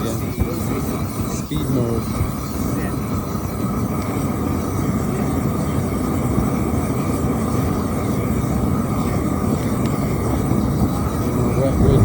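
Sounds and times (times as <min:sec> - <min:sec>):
propane torch roaring: 0:00.0 - 0:12.0.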